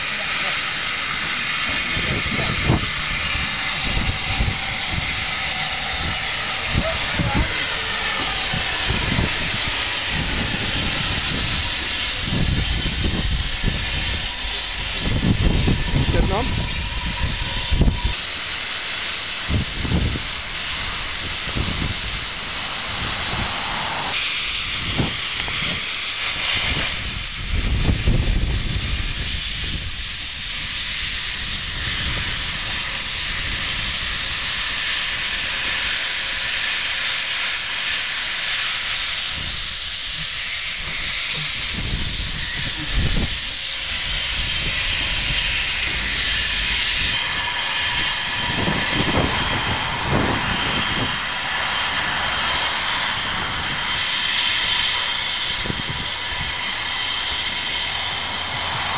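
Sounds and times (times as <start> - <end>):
steam hissing: 0.0 - 58.9
wind buffeting microphone: 0.8 - 18.2, 19.3 - 36.6, 39.3 - 58.9.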